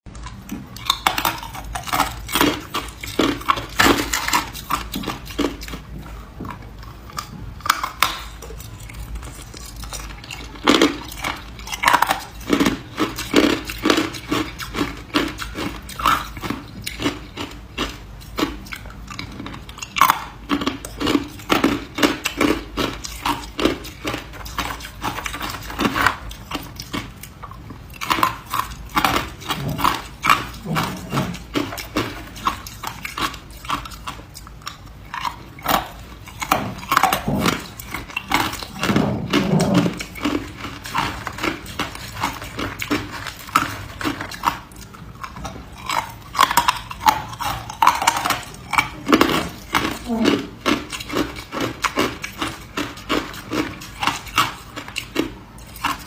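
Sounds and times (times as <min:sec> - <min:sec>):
ice being chewed: 0:00.1 - 0:56.0.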